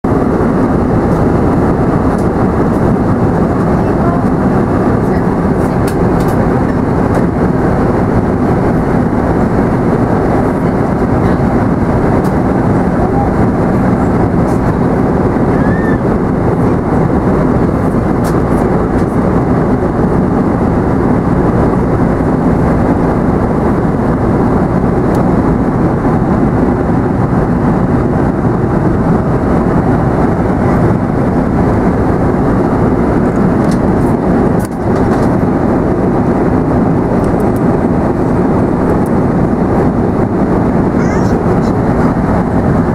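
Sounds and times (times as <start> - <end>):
airliner cabin noise: 0.0 - 42.9.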